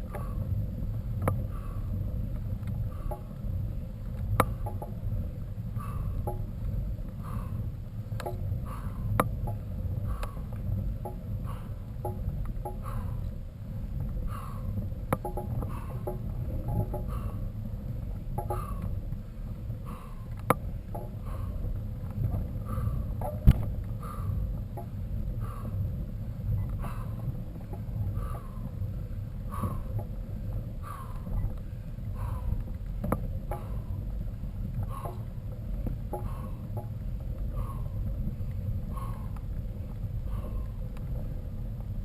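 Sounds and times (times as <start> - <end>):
bike low rumble: 0.0 - 42.0.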